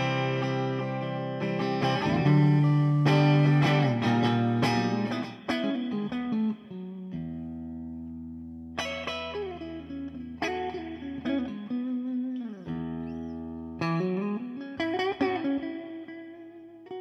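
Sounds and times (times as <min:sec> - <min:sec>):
clean electric guitar: 0:00.0 - 0:17.0.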